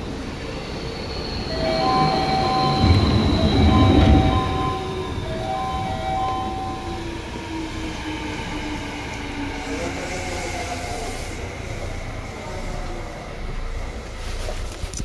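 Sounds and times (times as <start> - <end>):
train wheels rumbling: 0.0 - 14.7.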